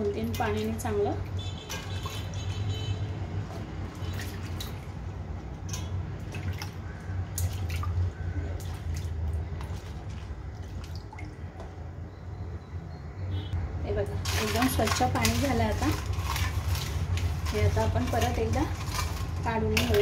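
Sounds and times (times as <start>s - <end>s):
water splashing in steel bowl: 0.0s - 2.7s, 3.8s - 11.6s, 14.2s - 20.0s.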